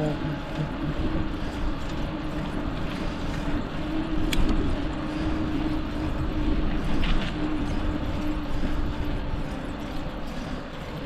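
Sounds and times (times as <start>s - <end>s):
bicycle tyre and road noise: 0.0s - 11.0s
steady low hum: 0.0s - 11.0s
wind rumbling over microphone: 0.0s - 11.0s.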